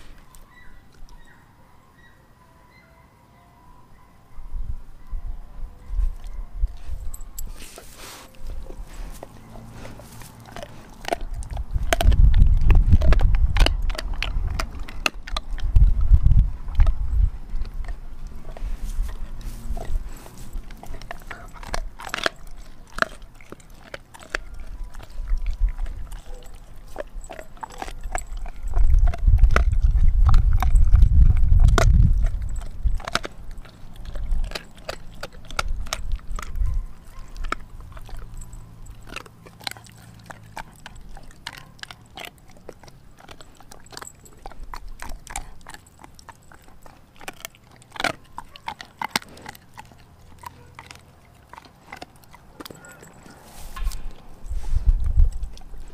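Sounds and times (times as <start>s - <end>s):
dog gnawing bone: 6.1s - 55.9s.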